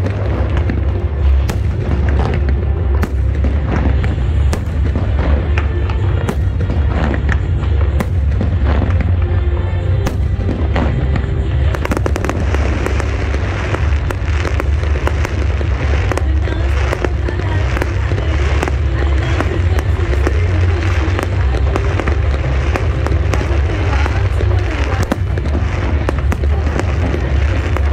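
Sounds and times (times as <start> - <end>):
fireworks bangs and crackles: 0.0 - 27.9
low rumble: 0.0 - 27.9.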